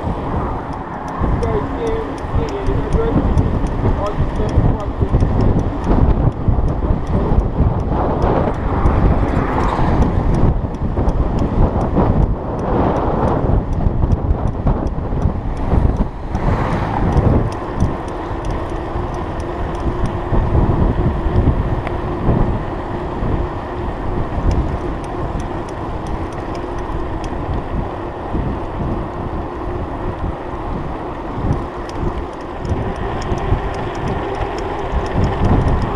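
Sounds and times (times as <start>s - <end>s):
bike clicks and rattles: 0.0s - 35.9s
tyre noise on rough asphalt: 0.0s - 35.9s
wind buffeting microphone: 0.0s - 35.9s.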